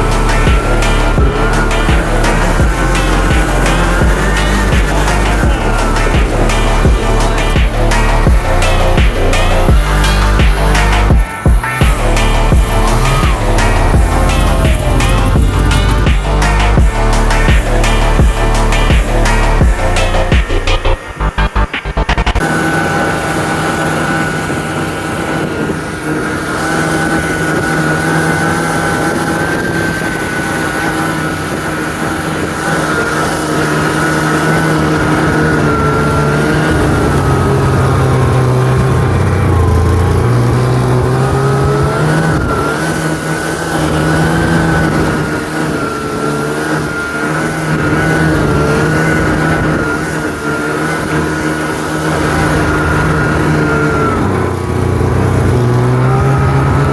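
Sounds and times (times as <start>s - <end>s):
snowmobile engine running: 0.0s - 56.9s.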